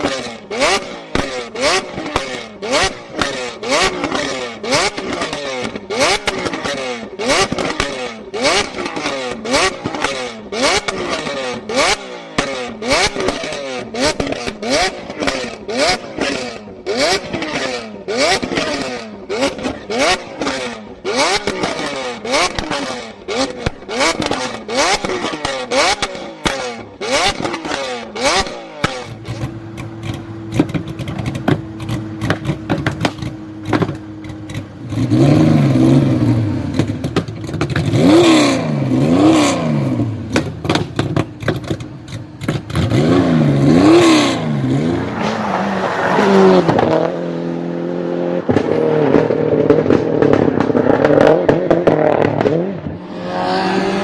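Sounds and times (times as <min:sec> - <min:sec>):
exhaust pops and crackles: 0:00.0 - 0:16.4, 0:17.1 - 0:45.4, 0:48.4 - 0:53.0
car engines revving: 0:00.0 - 0:54.0.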